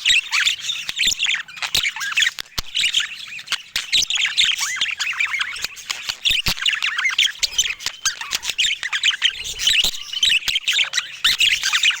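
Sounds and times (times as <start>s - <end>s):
budgerigars chattering: 0.0s - 12.0s.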